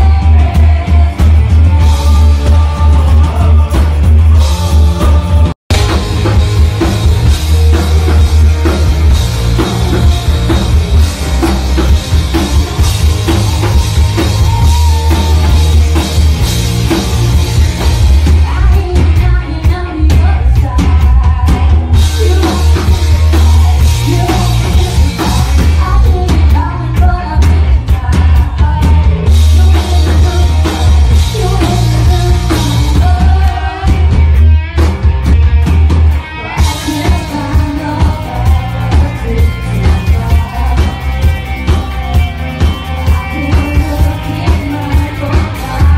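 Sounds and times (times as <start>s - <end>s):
woman singing: 0.0s - 5.6s, 12.5s - 34.5s, 36.4s - 45.9s
bass: 0.0s - 45.9s
drum kit with heavy kick drum: 0.0s - 45.9s
electric guitar: 0.0s - 45.9s.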